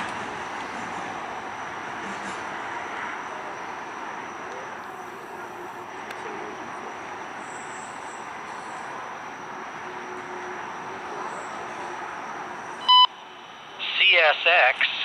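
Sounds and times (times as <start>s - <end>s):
train wheels rumbling on rails: 0.0s - 12.8s.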